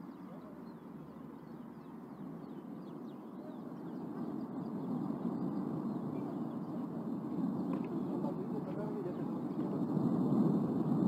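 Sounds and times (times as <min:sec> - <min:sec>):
low rushing roar: 0:00.0 - 0:11.0.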